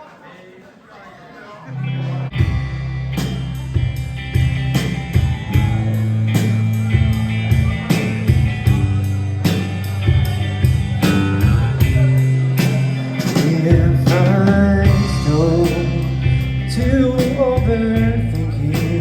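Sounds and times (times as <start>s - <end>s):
held bass notes: 1.8s - 19.0s
rock band playing: 1.8s - 19.0s
drum hits: 2.4s - 18.2s.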